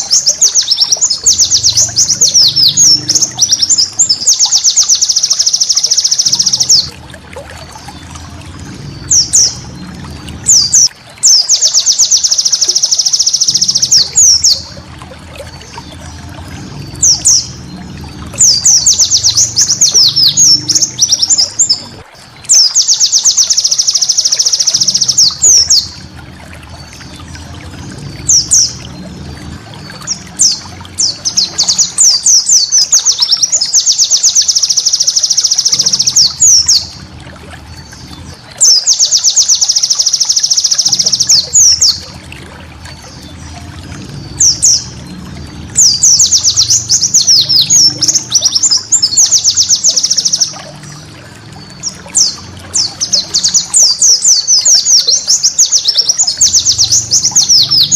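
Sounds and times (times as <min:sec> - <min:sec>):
bird trills and buzzy chatter: 0:00.0 - 0:57.9.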